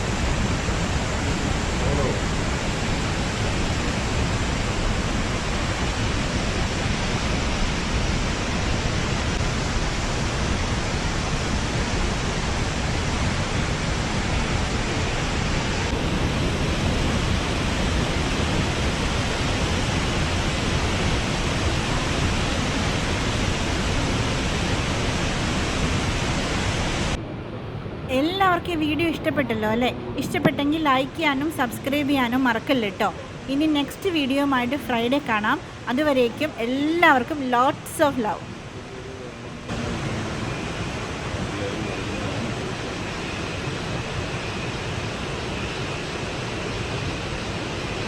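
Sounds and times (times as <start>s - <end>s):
waterfall rushing: 0.0s - 27.2s, 28.4s - 38.8s, 39.5s - 45.6s.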